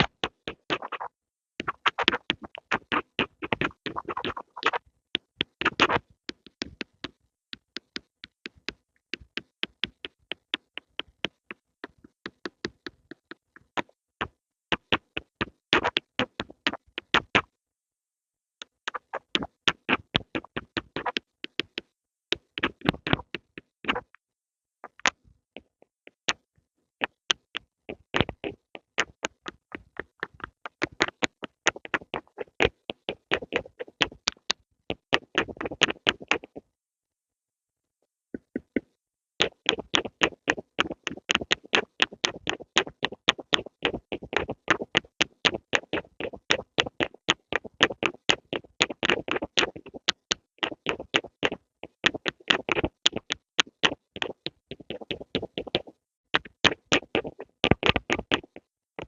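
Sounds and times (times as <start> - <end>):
pencil tapping and stroking: 0.0 - 17.6, 18.6 - 24.2, 24.9 - 36.7, 38.3 - 59.0.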